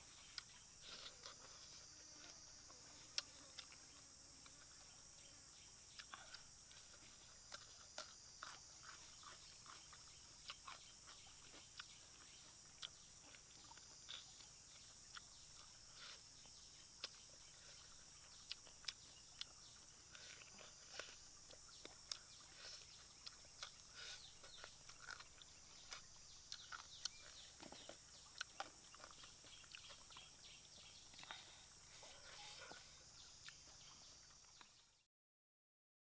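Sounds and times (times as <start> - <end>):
steady background hiss: 0.0 - 34.4
wet chewing and lip-smacking: 0.2 - 31.8, 32.6 - 34.8.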